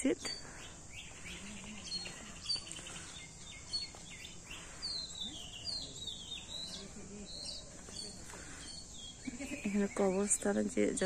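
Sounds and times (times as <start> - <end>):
small birds twittering: 0.0 - 11.0
soft outdoor hiss: 0.0 - 11.0.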